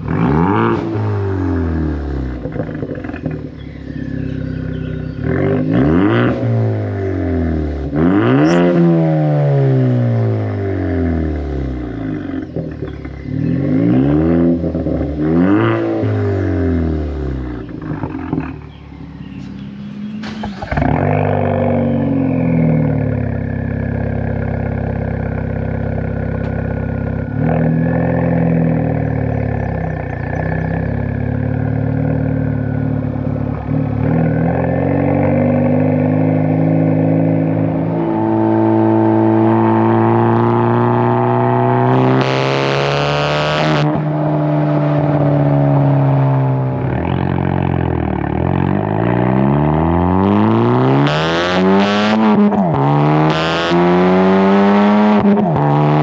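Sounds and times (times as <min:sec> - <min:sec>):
car engine accelerating: 0:00.0 - 0:56.0
car engine revving: 0:00.0 - 0:56.0.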